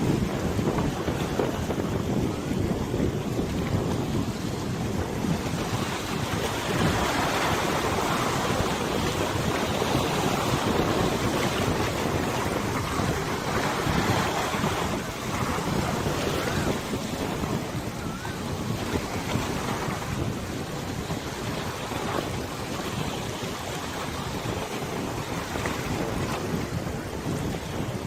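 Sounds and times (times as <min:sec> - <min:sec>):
river water rushing and splashing: 0:00.0 - 0:28.0
wind buffeting microphone: 0:00.0 - 0:28.0.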